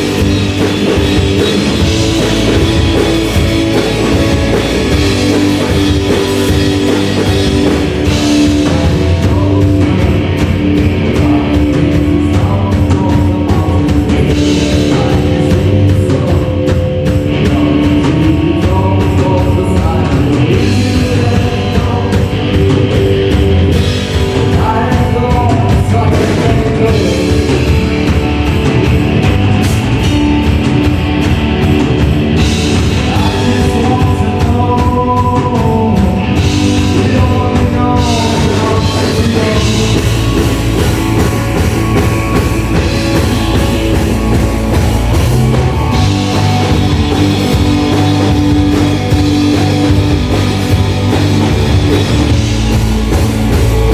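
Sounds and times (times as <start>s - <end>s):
person singing: 0.0s - 28.5s, 32.4s - 53.9s
drum kit: 0.0s - 53.9s
guitar: 0.0s - 53.9s.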